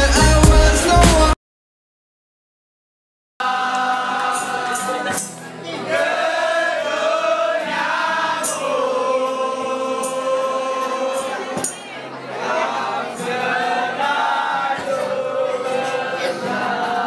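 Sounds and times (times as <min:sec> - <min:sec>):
group of people singing: 0:00.0 - 0:01.4, 0:03.4 - 0:17.0.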